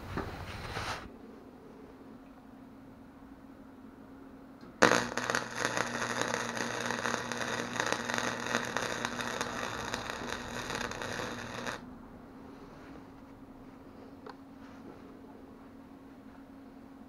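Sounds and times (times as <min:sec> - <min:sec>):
low hum: 0:01.1 - 0:15.5.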